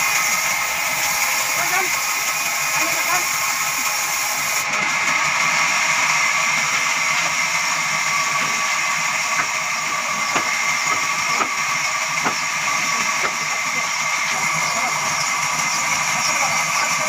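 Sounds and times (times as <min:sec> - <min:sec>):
band saw cutting wood: 0:00.0 - 0:17.0.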